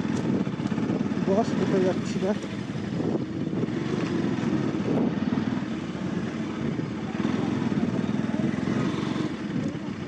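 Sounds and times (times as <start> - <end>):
wind noise: 0.0 - 9.9
motorcycle engine running: 0.0 - 10.0.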